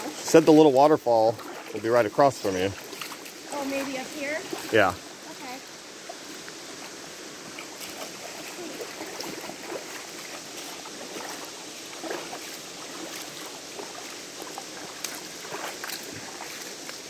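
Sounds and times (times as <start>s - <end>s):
river water rushing over rocks: 0.0s - 17.0s
water trickles and splashes: 0.0s - 17.0s.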